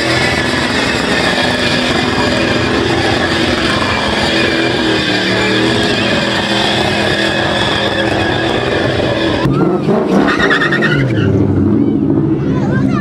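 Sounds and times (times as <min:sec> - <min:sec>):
car engine revving: 0:00.0 - 0:13.0
dense rushing noise: 0:00.0 - 0:13.0.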